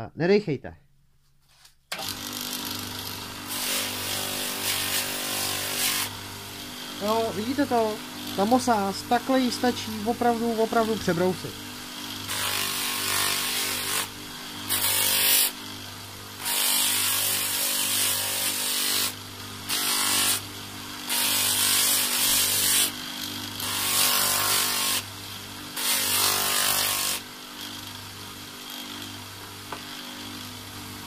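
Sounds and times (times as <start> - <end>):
electric motor humming: 1.9 - 31.0.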